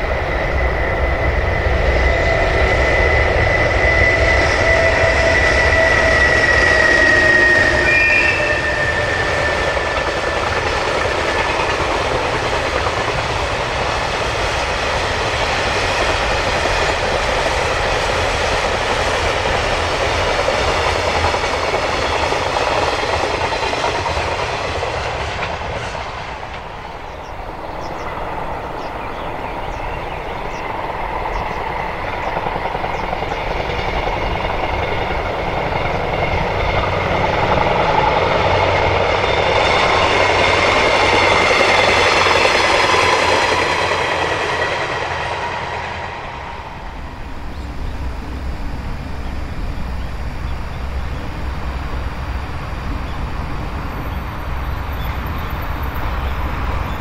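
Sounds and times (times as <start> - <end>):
train wheels on track: 0.0 - 57.0.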